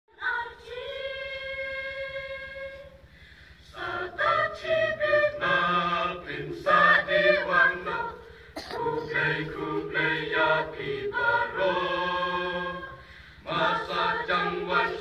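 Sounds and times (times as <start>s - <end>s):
mixed choir singing unaccompanied: 0.1s - 15.0s.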